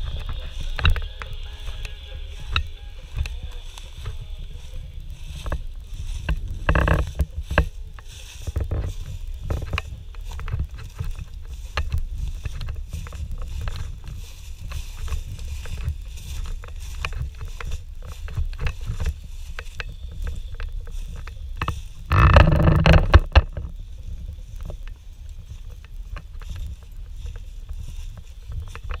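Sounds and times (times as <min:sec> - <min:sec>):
footsteps crunching dry leaves: 0:00.0 - 0:29.0
low steady rumble: 0:00.0 - 0:29.0.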